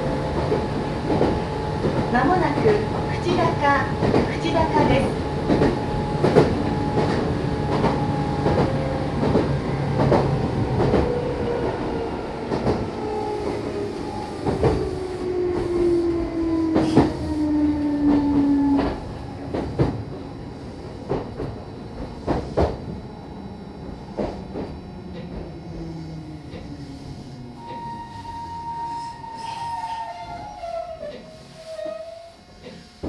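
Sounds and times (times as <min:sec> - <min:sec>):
train motor whine: 0:00.0 - 0:33.0.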